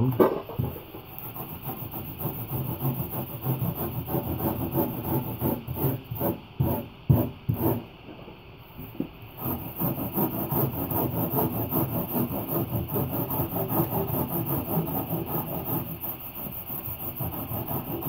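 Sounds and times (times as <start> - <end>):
hand rasp scraping foam: 0.6 - 7.8, 9.4 - 18.0.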